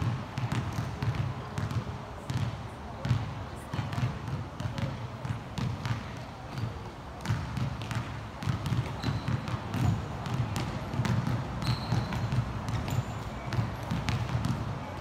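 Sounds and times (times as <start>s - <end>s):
basketballs bouncing on wooden floor: 0.0s - 15.0s.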